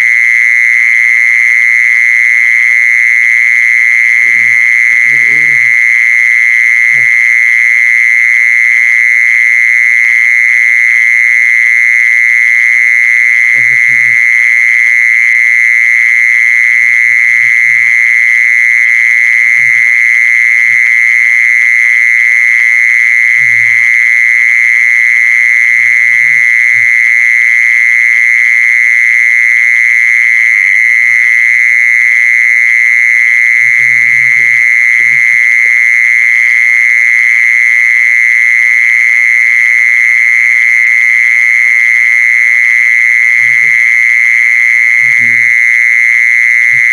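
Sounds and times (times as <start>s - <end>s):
insect high-pitched trill: 0.0s - 46.9s.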